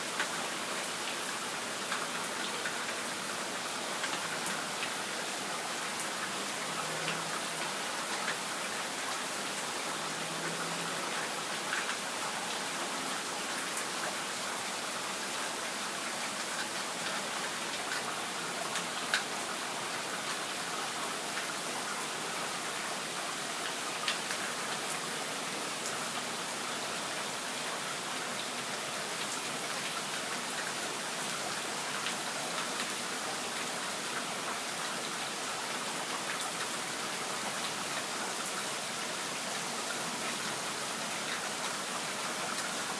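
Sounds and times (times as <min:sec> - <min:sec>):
steady rain hissing: 0:00.0 - 0:42.9.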